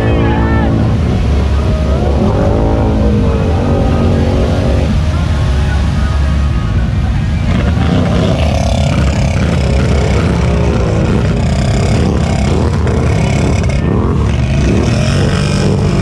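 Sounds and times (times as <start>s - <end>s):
atv engines revving: 0.0s - 16.0s
low rumble: 0.0s - 16.0s.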